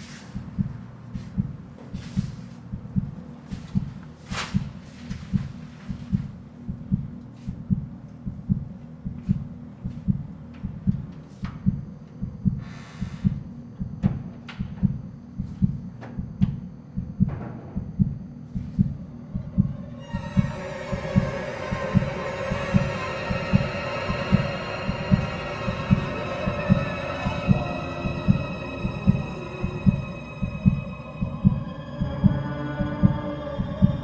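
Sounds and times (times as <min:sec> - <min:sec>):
heartbeat sound effect: 0:00.0 - 0:34.0.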